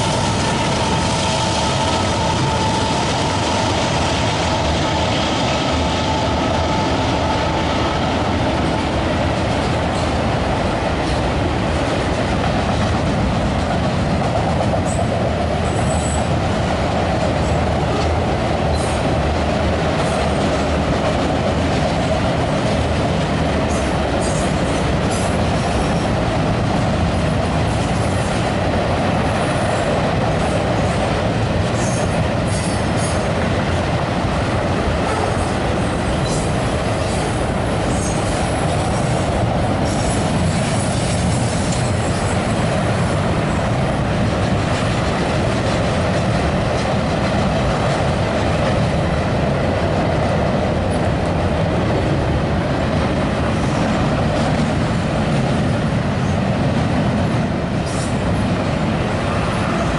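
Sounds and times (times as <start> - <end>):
train wheels rumbling on bridge: 0.0 - 59.9.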